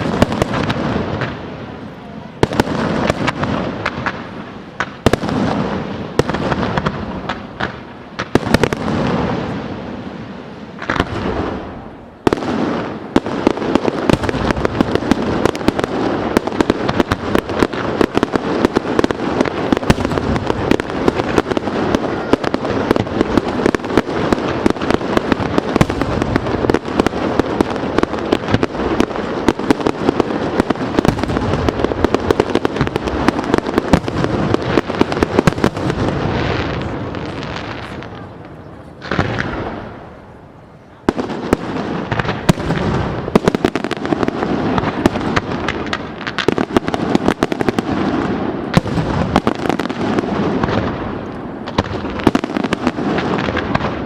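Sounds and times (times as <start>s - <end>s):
fireworks bangs with rumbling echo: 0.0s - 54.0s
rapid fireworks barrage and crackling: 0.0s - 54.0s.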